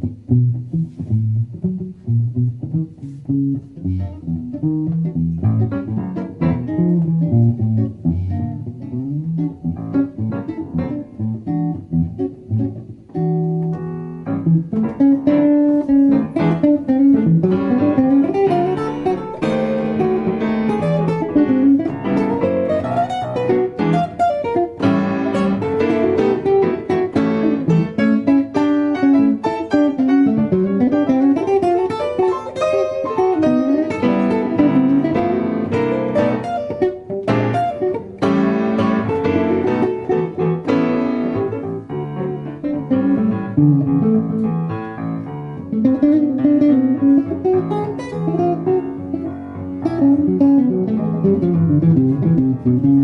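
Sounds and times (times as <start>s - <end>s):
acoustic guitar blues: 0.0s - 53.0s.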